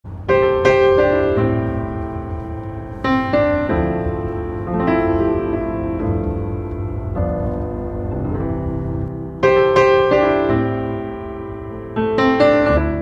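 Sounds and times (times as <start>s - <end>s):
piano music: 0.1s - 13.0s.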